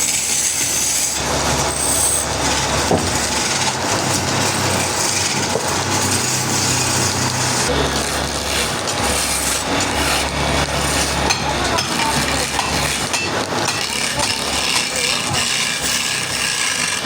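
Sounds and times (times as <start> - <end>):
wood-cutting equipment noise: 0.0 - 17.0.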